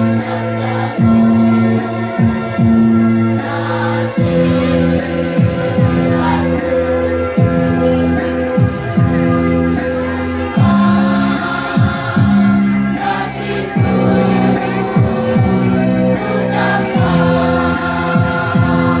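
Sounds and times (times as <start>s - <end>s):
children's choir singing: 0.0s - 19.0s
music with deep beat: 0.0s - 19.0s.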